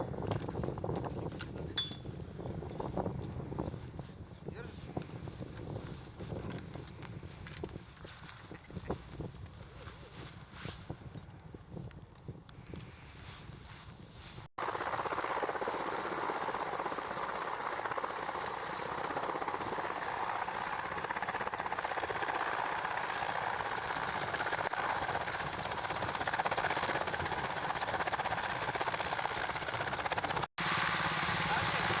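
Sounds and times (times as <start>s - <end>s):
helicopter rotor and engine: 0.0s - 10.7s, 14.6s - 32.0s.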